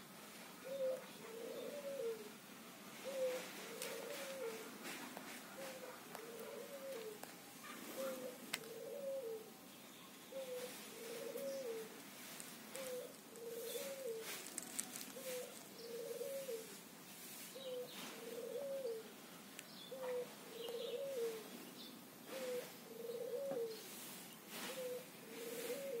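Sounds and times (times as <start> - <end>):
dove cooing: 0.6 - 9.6, 10.3 - 19.2, 19.8 - 21.6, 22.2 - 26.0
small birds chirping: 3.0 - 26.0.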